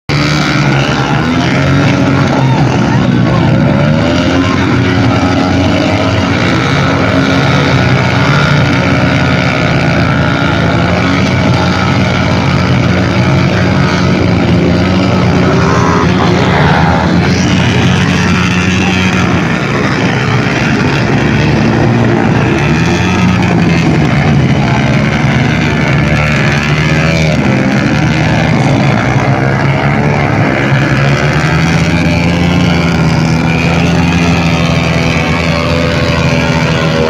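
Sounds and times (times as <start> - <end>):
dirt bike engine revving: 0.1 - 37.0.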